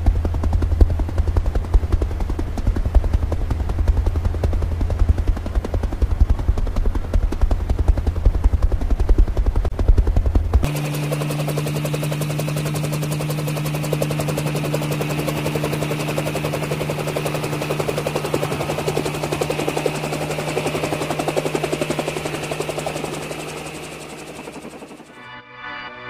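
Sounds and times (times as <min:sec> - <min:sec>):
helicopter rotor chop: 0:00.0 - 0:25.2
low engine hum: 0:00.0 - 0:25.2.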